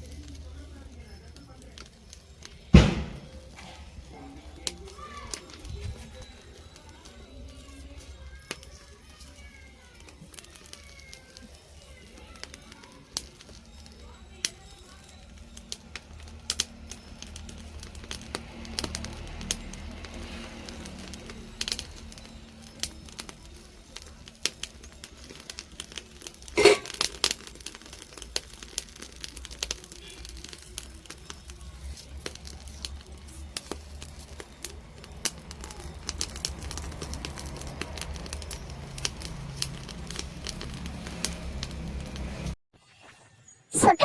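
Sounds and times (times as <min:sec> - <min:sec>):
open fire crackling and popping: 0:00.0 - 0:42.6.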